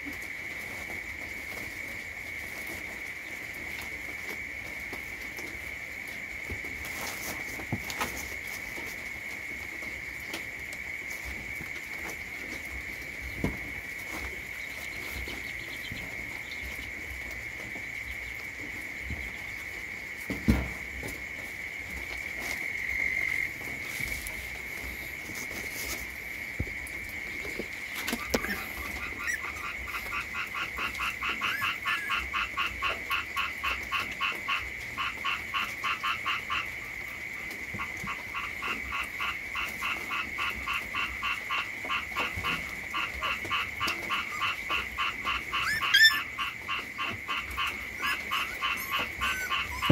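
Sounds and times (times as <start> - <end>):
frog chorus: 0.0 - 49.9
rapid pulsing frog croak: 2.8 - 49.9.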